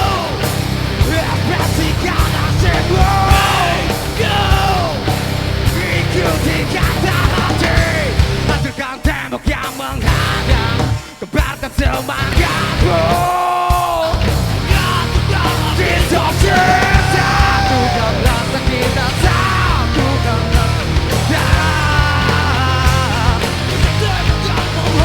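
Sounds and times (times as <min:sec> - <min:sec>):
heavy rock band playing: 0:00.0 - 0:25.0
person shouting singing: 0:00.0 - 0:25.0.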